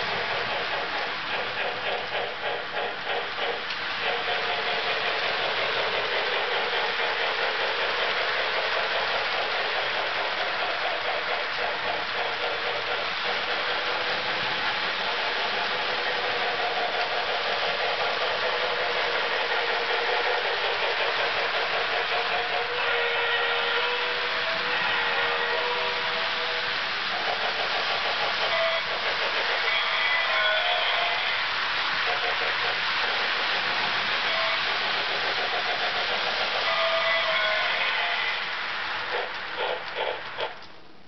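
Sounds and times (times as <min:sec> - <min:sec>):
model train motor running: 0:00.0 - 0:40.7
wheels clattering on metal rails: 0:00.0 - 0:40.7.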